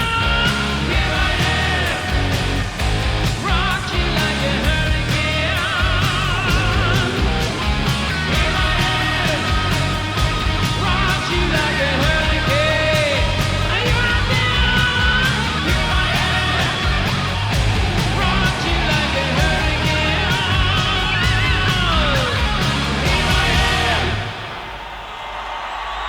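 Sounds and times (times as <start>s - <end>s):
person singing: 0.0s - 24.4s
electric guitars: 0.0s - 25.0s
drums: 0.0s - 26.0s.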